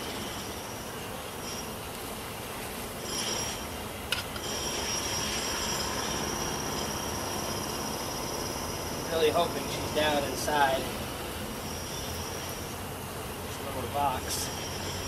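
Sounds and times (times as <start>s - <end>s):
honeybees droning: 0.0s - 15.0s.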